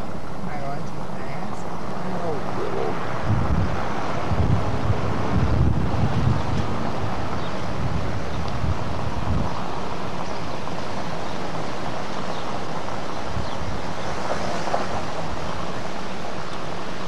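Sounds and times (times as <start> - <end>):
car road noise: 0.0 - 17.0
wind rush on microphone: 0.0 - 17.0.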